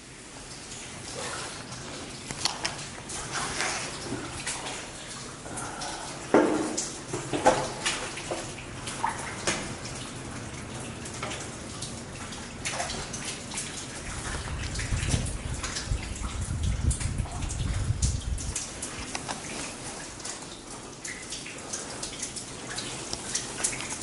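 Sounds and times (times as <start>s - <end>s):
water dripping and splashing: 0.0s - 24.0s.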